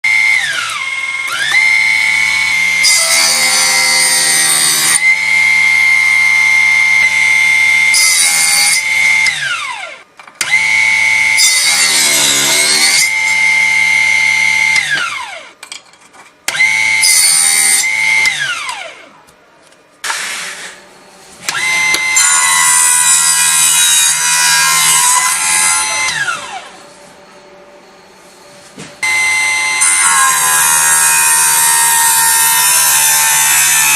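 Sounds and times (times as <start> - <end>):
table saw motor whining: 0.0 - 15.6, 16.5 - 19.1, 21.4 - 26.9, 27.8 - 33.9.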